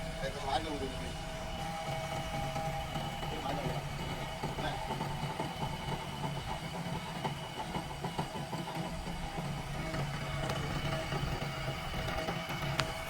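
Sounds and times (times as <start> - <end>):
heavy diesel engine running: 0.0 - 13.0
steady whine: 0.0 - 13.0.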